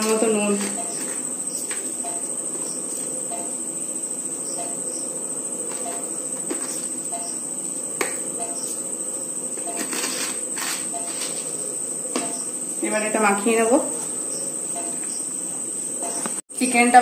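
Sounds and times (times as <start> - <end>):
crickets trilling: 0.0 - 17.0
lower chirp: 0.7 - 9.9, 10.9 - 16.4.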